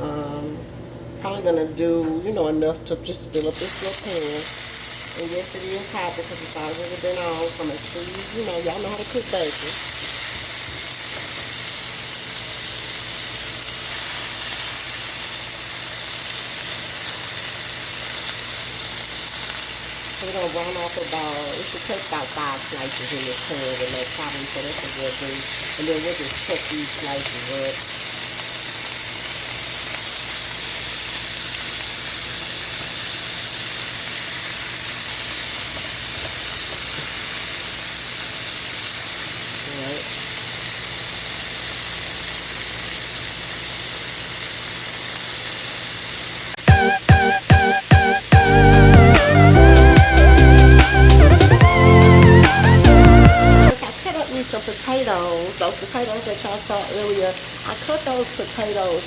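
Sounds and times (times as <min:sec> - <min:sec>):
bacon sizzling in a pan: 0:03.3 - 0:59.0.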